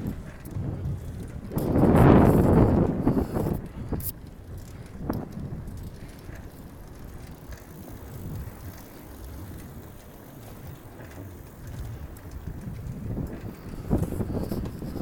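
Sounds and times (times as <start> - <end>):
bicycle tyres rumbling on planks: 0.0 - 15.0.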